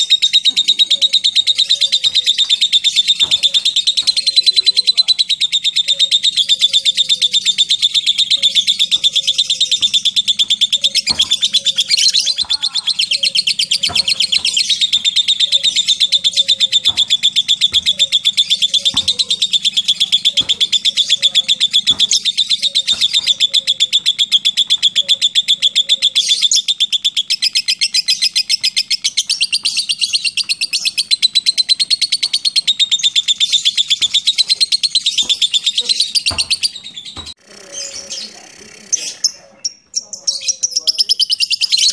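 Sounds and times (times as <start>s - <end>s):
lovebird chattering: 0.0s - 41.9s.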